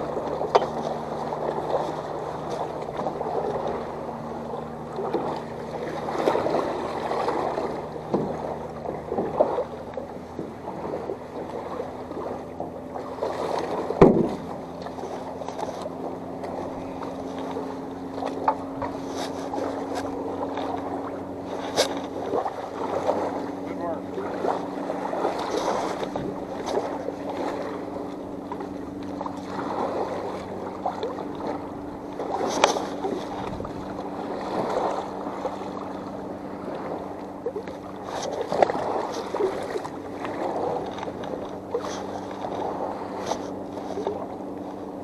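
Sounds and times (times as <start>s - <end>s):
small motor humming: 0.0s - 45.0s
water noise: 0.0s - 45.0s
wind: 0.0s - 45.0s.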